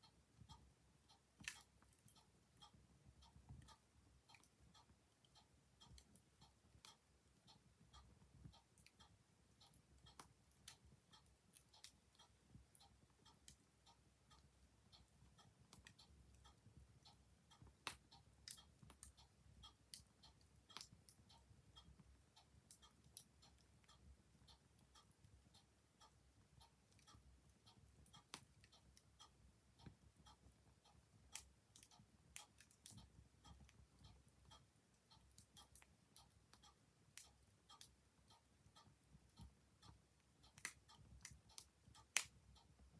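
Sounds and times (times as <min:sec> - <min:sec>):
clock ticking: 0:00.0 - 0:42.9.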